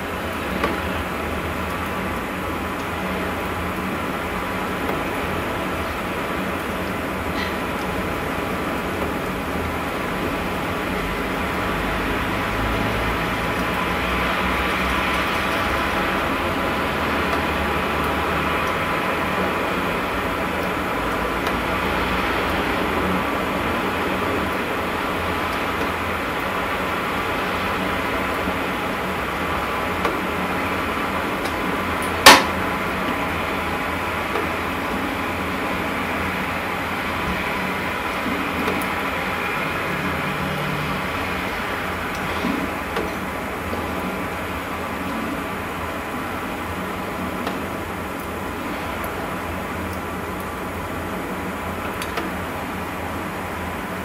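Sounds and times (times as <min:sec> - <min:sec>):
droning background noise: 0:00.0 - 0:54.0.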